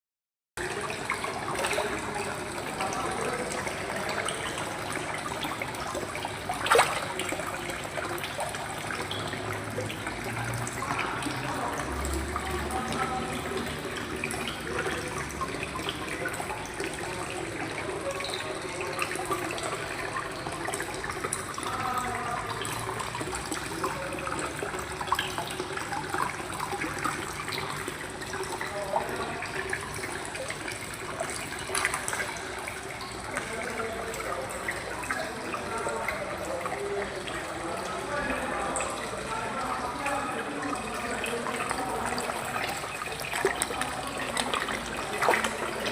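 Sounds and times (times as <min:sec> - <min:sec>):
water running and splashing: 0:00.6 - 0:45.9.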